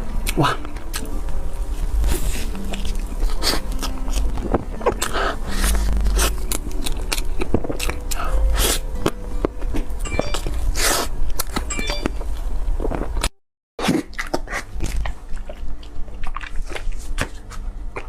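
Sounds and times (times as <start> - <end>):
biting and chewing cake: 1.9 - 11.7, 12.8 - 18.0.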